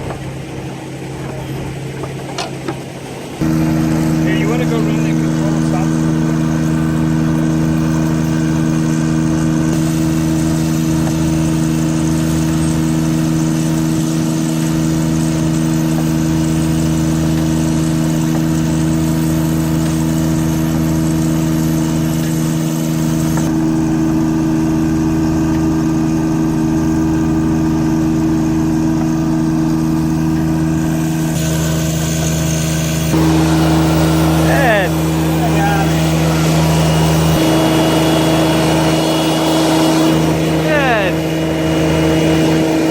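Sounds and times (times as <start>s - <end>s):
engine running steadily: 0.0s - 42.9s.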